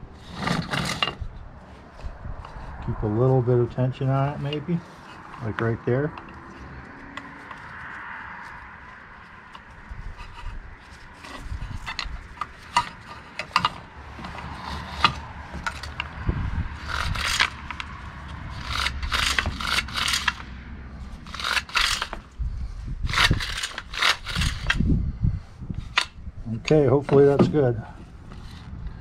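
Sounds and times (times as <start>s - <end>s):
starter cord scraping and rubbing: 0.0s - 29.0s.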